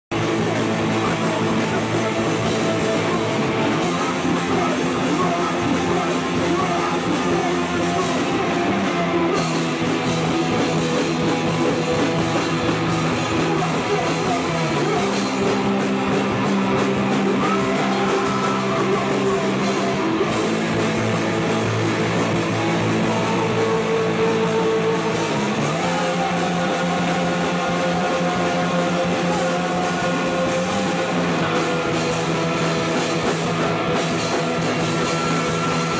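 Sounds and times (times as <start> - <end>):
man singing into a microphone: 0.1 - 33.3
drum kit: 0.1 - 35.9
electric guitars: 0.1 - 35.9.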